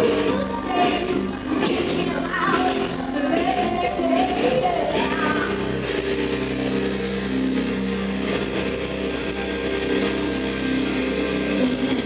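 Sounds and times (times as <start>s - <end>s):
live band with electric guitar: 0.0s - 12.0s.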